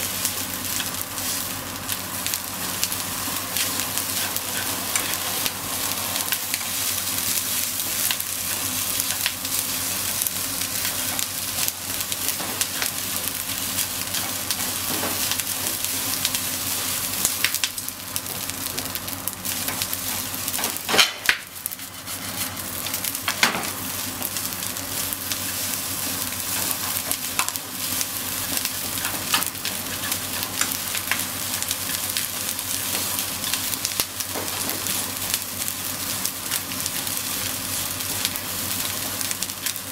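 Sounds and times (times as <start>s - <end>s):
rice sizzling in a frying pan: 0.0s - 39.9s.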